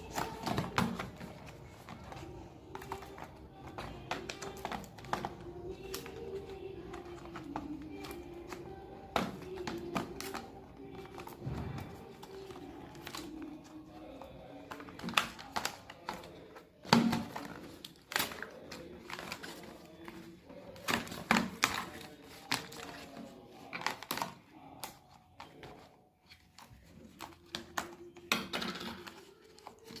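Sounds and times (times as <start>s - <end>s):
plastic clicks and crinkles: 0.0s - 30.0s.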